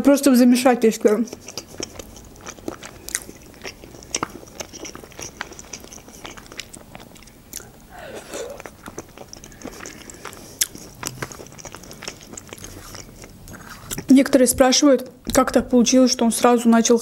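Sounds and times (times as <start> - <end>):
person chewing: 0.6 - 14.4.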